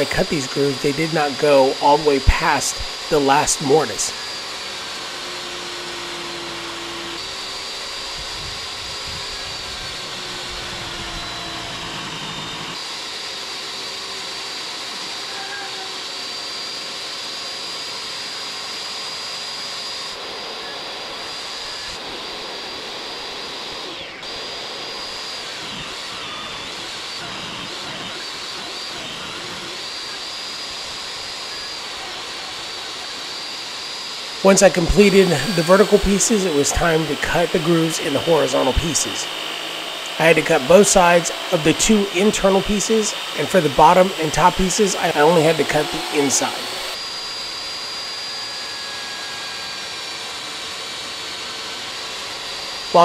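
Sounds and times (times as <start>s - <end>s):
shop vacuum running: 0.0s - 53.0s
table saw whine: 0.0s - 53.0s.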